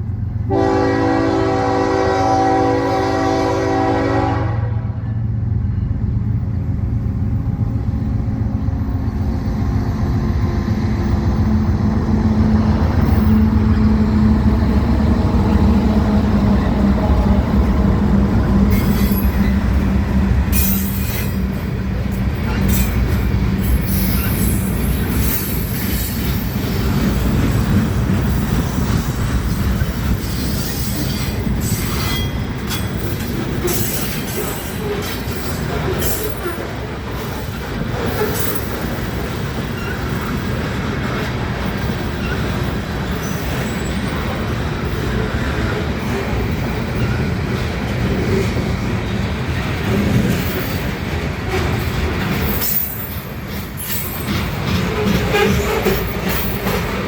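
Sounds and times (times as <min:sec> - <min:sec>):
diesel locomotives humming: 0:00.0 - 0:57.0
train wheels clattering and screeching: 0:05.0 - 0:57.0.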